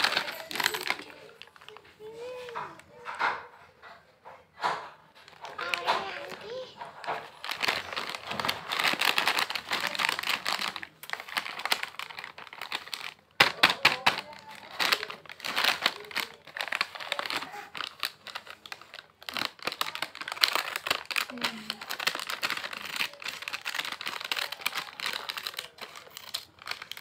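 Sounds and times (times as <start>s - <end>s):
plastic snack packet crinkling: 0.0s - 2.9s, 5.2s - 27.0s.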